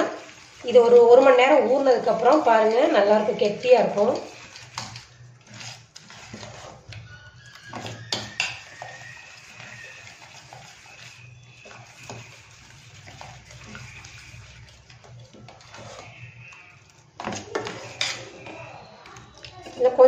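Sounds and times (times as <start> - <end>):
spoon stirring thick batter: 0.0 - 20.0.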